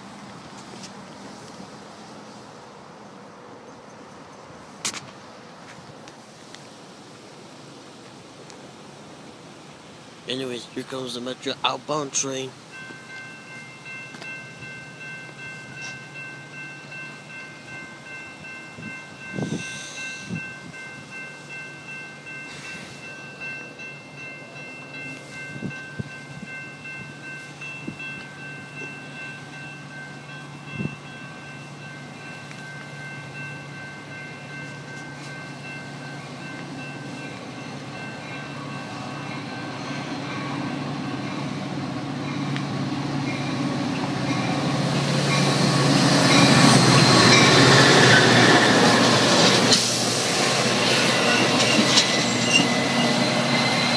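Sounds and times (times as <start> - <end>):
train rumble: 0.0 - 53.9
crossing warning bells ringing: 9.4 - 53.9.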